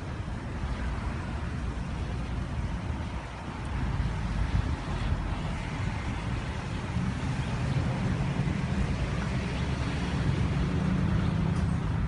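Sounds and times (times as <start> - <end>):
car traffic rumble: 0.0 - 12.0.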